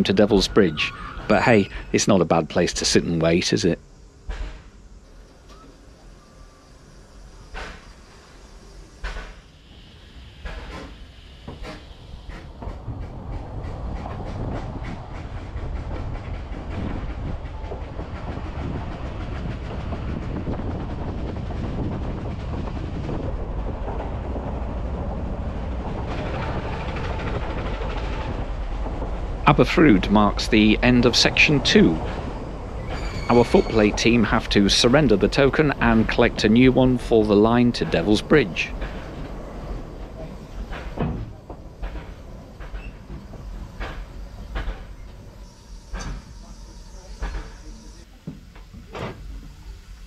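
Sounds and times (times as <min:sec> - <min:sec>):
rumble of wheels on track: 0:00.0 - 0:50.0
train wheels clicking over joints: 0:07.2 - 0:09.5, 0:10.4 - 0:49.9.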